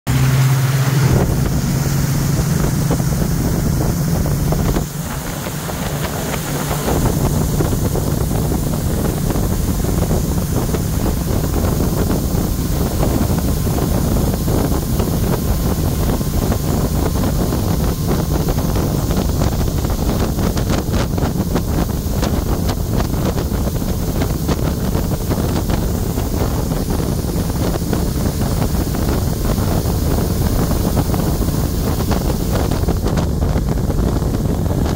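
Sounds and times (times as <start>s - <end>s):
boat engine hum: 0.1s - 34.9s
wind buffeting microphone: 0.1s - 34.9s.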